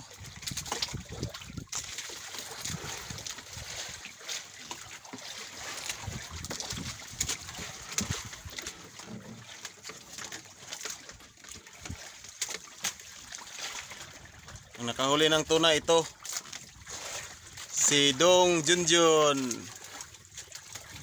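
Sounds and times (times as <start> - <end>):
water splashing against boat hull: 0.0 - 21.0.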